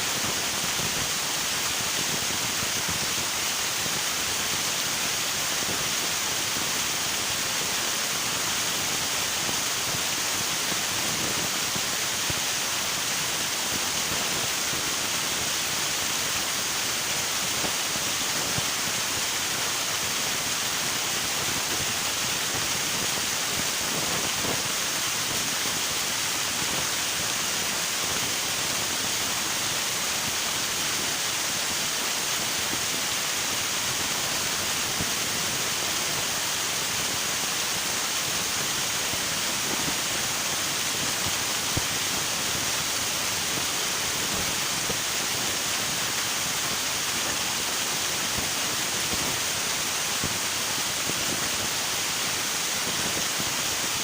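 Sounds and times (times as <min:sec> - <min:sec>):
river water rushing: 0:08.0 - 0:54.0.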